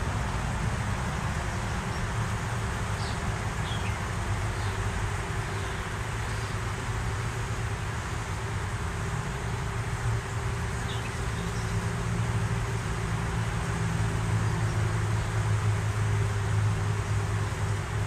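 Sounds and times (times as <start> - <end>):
low rumble and hiss: 0.0 - 18.0.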